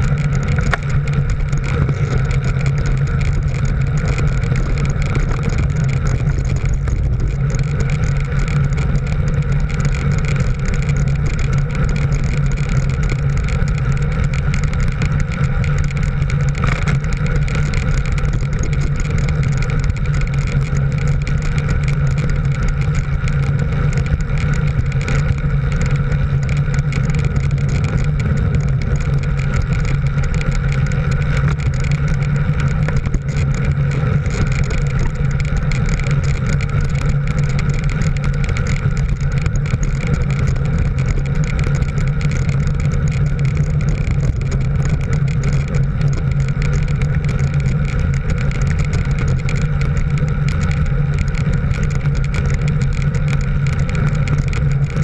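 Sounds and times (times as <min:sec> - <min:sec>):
road and air noise: 0:00.0 - 0:55.0
vehicle engine droning: 0:00.0 - 0:55.0.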